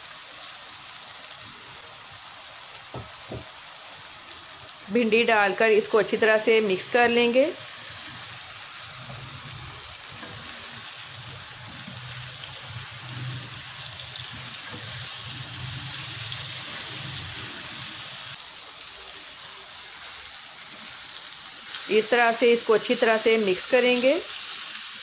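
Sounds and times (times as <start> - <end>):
okra sizzling in a frying pan: 0.0 - 25.0.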